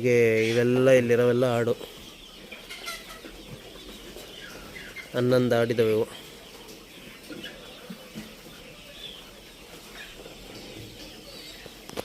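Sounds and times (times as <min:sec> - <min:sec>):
farmyard background noise: 0:00.0 - 0:12.0.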